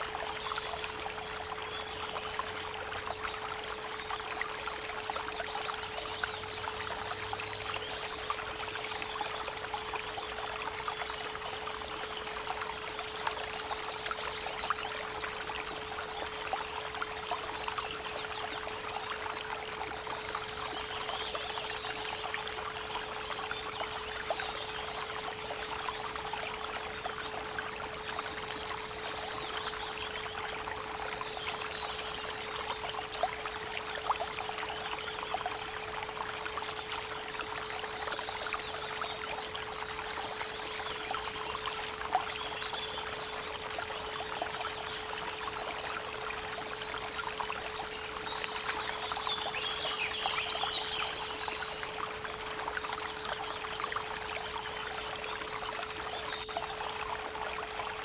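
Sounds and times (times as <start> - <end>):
creek water running: 0.0 - 58.0.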